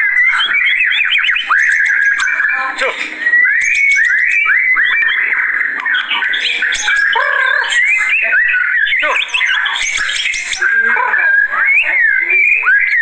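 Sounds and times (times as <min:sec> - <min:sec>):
bird singing rising whistles: 0:00.0 - 0:13.0.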